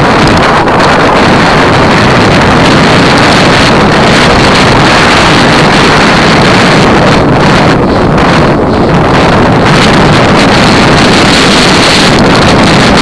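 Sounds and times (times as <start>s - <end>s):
wind rush on microphone: 0.0s - 13.0s.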